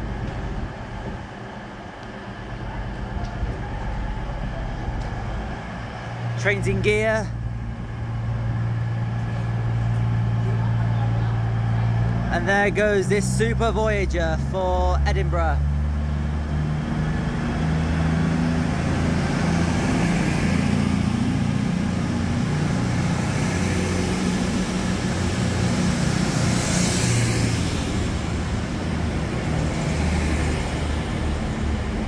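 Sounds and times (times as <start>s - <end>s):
diesel train engines droning: 0.0s - 32.0s.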